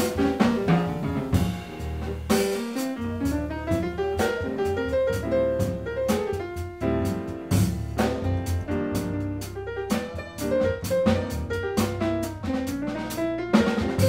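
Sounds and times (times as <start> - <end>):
jazz piano trio playing: 0.0 - 14.0.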